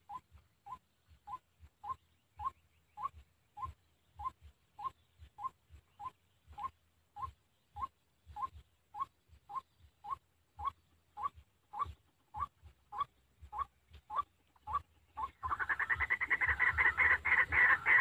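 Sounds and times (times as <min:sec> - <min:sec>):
waterhen calling: 0:00.0 - 0:18.0.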